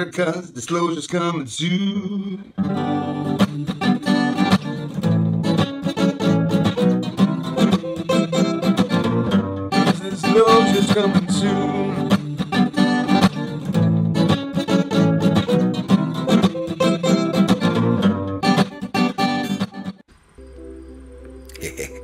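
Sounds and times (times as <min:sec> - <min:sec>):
instrumental guitar music: 0:02.6 - 0:22.0.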